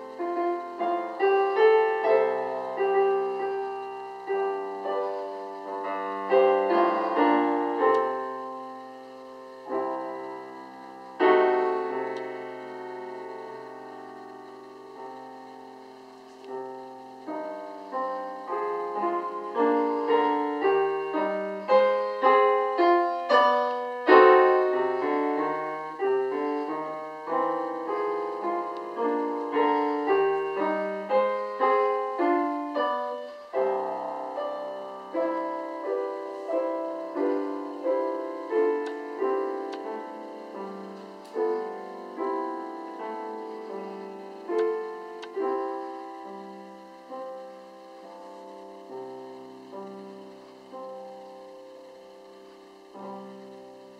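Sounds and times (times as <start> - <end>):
solo classical piano: 0.0 - 53.9.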